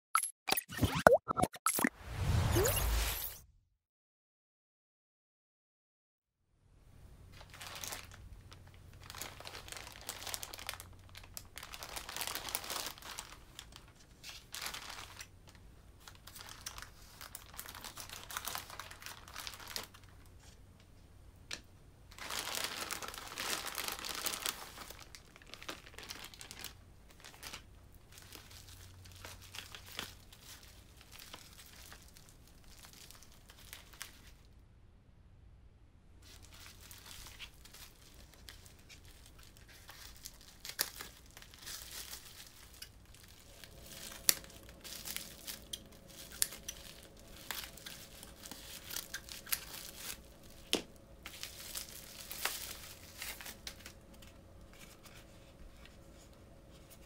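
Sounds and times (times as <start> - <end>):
plastic packaging crinkling: 7.3 - 20.4, 22.1 - 34.4, 36.2 - 57.0.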